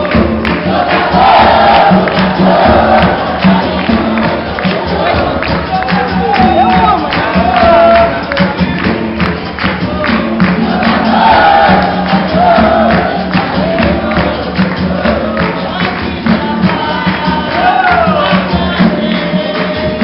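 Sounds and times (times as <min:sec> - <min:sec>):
tambourine and percussion beat: 0:00.0 - 0:20.0
voices singing: 0:00.0 - 0:20.0.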